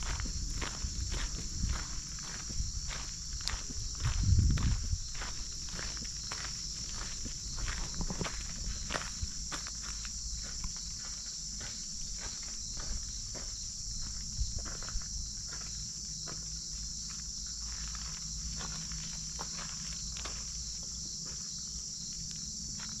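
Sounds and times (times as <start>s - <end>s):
footsteps on wet dirt path: 0.0s - 21.6s
insects chirring: 0.0s - 23.0s.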